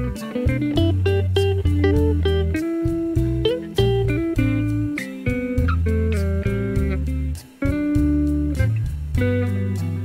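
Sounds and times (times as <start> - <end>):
low bass line: 0.0 - 10.0
plucked guitar notes: 0.0 - 10.0.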